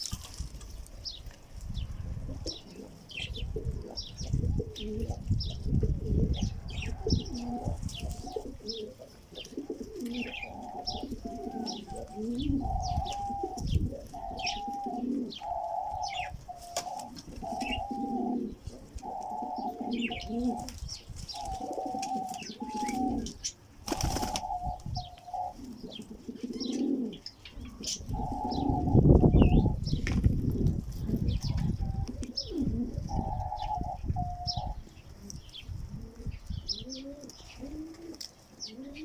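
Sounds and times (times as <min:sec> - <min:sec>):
small birds chirping: 0:00.0 - 0:39.0
pigeons cooing: 0:01.7 - 0:39.0.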